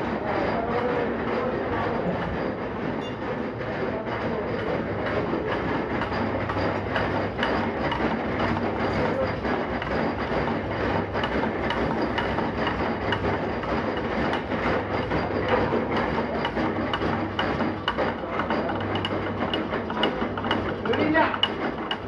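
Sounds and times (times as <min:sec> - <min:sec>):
metal lathe running: 0:00.0 - 0:22.0.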